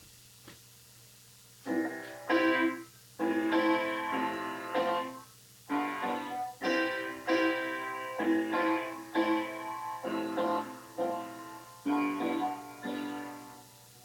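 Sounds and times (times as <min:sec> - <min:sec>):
piano chords: 0:01.7 - 0:14.0.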